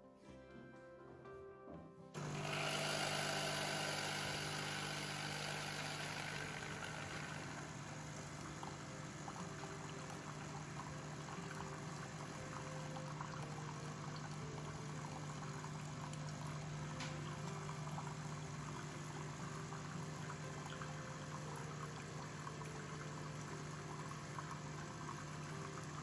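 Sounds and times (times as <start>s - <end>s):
espresso machine pump humming: 2.2s - 26.0s
hot water and steam hissing: 2.2s - 26.0s.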